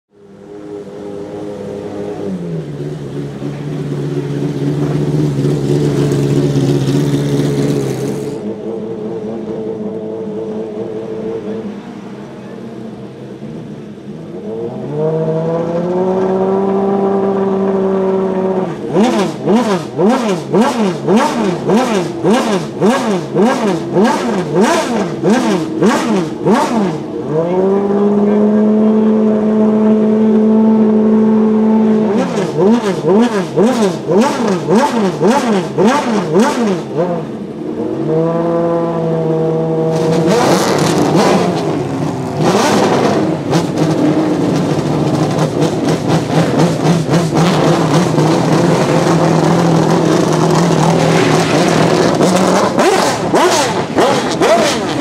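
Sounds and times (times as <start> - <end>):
race car engine revving: 0.2 - 55.0.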